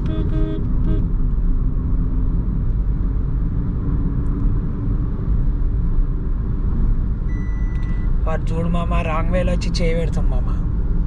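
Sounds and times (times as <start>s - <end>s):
car road and drivetrain rumble: 0.0s - 11.0s.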